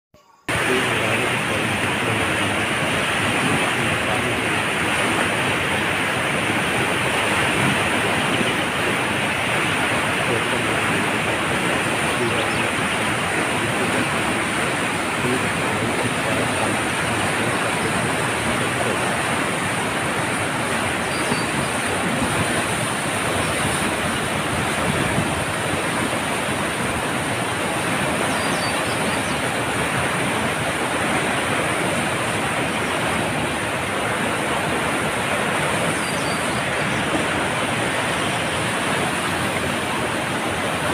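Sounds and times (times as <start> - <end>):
floodwater rushing: 0.5 - 40.9.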